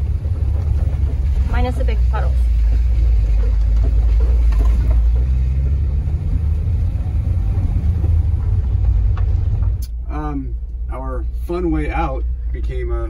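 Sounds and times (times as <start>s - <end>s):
engine and road rumble: 0.0s - 13.0s
low engine hum: 0.0s - 13.0s.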